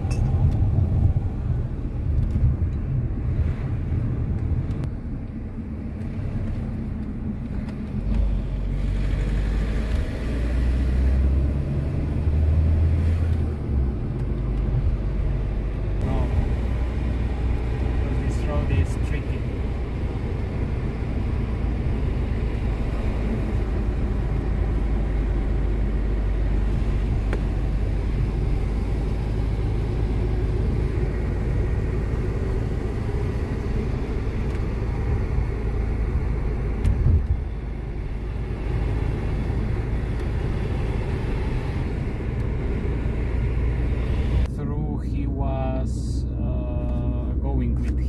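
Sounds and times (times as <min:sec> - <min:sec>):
car cabin road rumble: 0:00.0 - 0:48.0.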